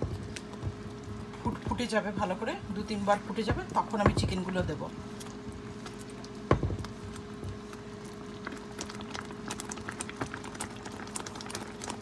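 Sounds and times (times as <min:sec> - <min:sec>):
gravy simmering bubble pops: 0:00.0 - 0:02.3, 0:03.2 - 0:12.0
steady low hum: 0:00.0 - 0:12.0.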